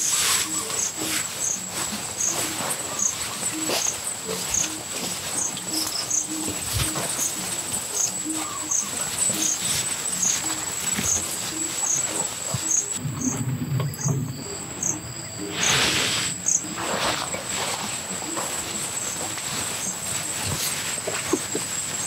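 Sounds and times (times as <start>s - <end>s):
insect chirp: 0.0s - 22.0s
insects whining: 0.0s - 22.0s
rustling: 0.0s - 22.0s.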